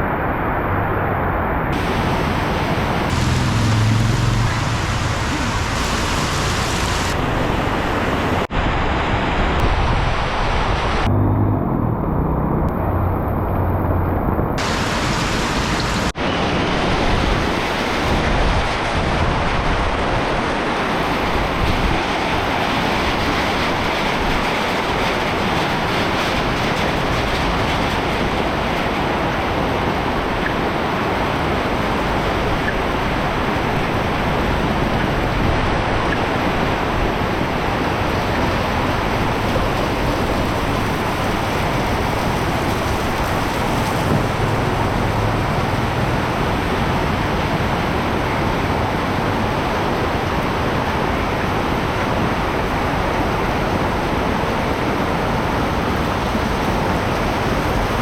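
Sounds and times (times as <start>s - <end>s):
heavy rain pouring: 0.1s - 11.1s, 12.8s - 58.0s.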